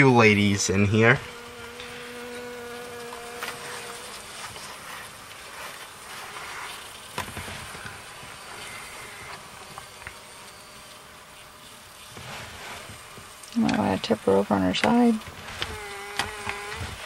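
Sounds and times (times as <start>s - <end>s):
honeybees buzzing: 0.0s - 17.0s
bee humming close by: 0.1s - 17.0s.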